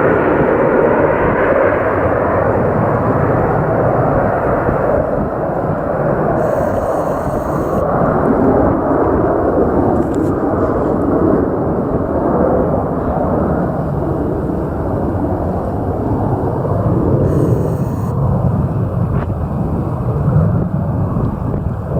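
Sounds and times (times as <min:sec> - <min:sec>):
airliner engine and airflow rumble: 0:00.0 - 0:21.9.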